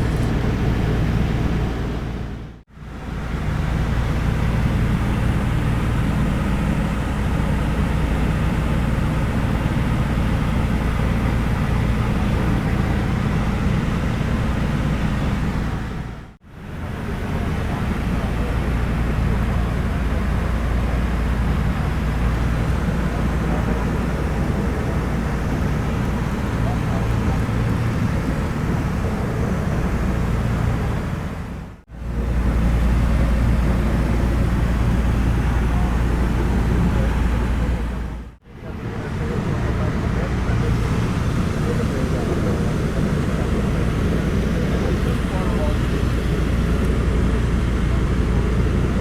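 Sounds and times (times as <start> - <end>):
propeller plane engines droning: 0.0 - 49.0.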